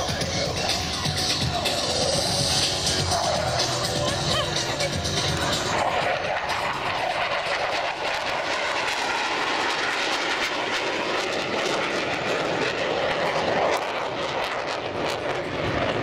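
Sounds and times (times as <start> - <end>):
airplane engine in flight: 0.0 - 16.0.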